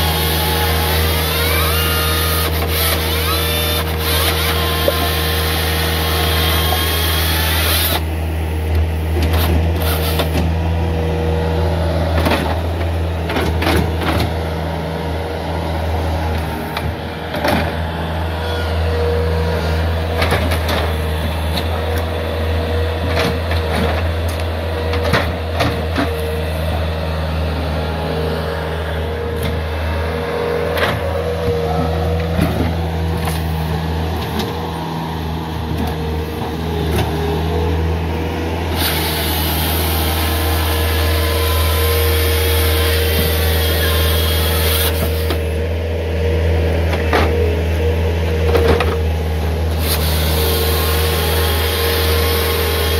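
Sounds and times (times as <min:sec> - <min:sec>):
chainsaw cutting through log: 0:00.0 - 0:24.7, 0:26.0 - 0:45.9, 0:48.8 - 0:52.9
diesel engine running: 0:00.0 - 0:52.9.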